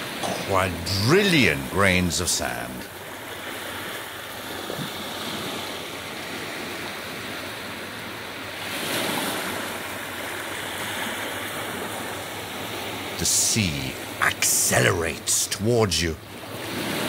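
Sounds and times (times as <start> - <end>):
sea waves washing on beach: 0.0 - 17.0.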